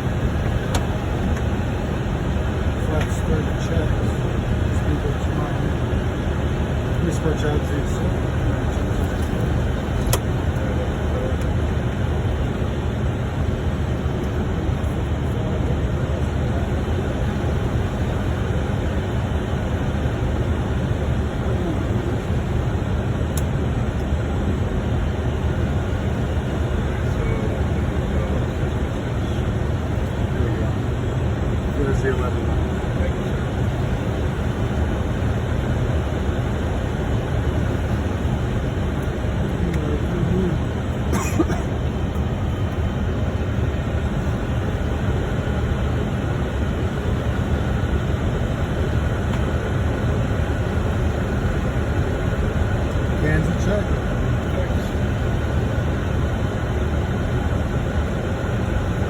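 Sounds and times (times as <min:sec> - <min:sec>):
airflow and jet engine rumble: 0:00.0 - 0:59.0
rushing cockpit noise: 0:00.0 - 0:59.0.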